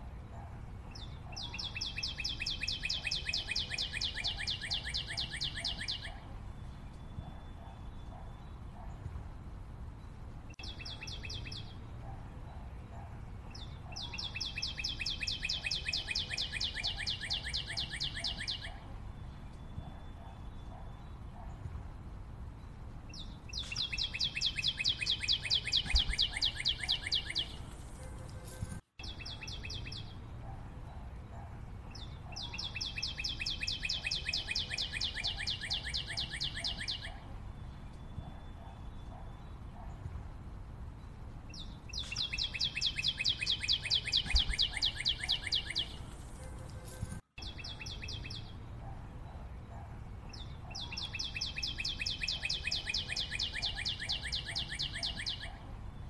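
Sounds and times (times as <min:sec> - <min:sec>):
bird singing rapid trills: 0:00.9 - 0:09.0, 0:10.0 - 0:12.1, 0:13.5 - 0:21.6, 0:22.6 - 0:28.2, 0:29.0 - 0:30.4, 0:31.9 - 0:39.9, 0:41.0 - 0:48.7, 0:50.3 - 0:56.0.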